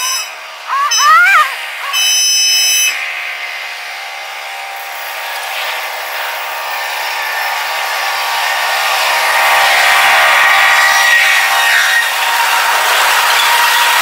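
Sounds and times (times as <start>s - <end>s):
freight train whine: 0.0s - 14.0s
rail noise: 0.0s - 14.0s.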